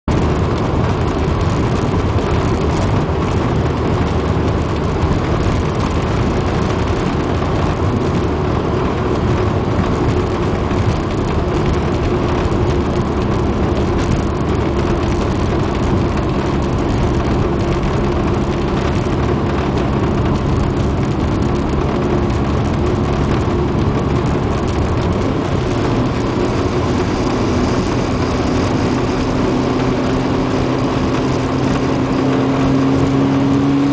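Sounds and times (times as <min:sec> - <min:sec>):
car engine accelerating hard: 0:00.0 - 0:33.9
wind noise: 0:00.1 - 0:33.9.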